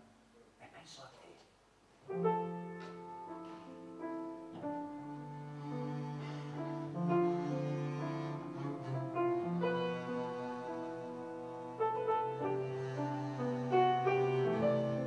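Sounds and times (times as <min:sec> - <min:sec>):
bowed double bass: 0:02.3 - 0:15.0.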